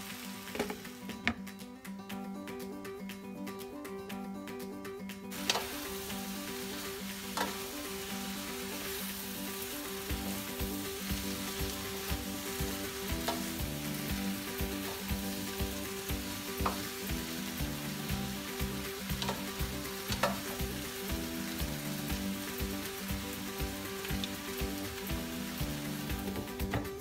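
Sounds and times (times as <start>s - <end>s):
vegetables sizzling in a frying pan: 0.0s - 1.2s, 5.3s - 27.0s.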